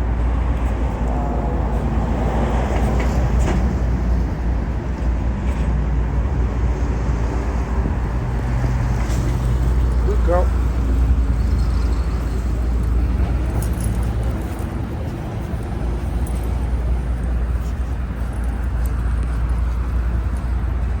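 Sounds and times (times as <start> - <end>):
vehicle interior rumble: 0.0 - 21.0.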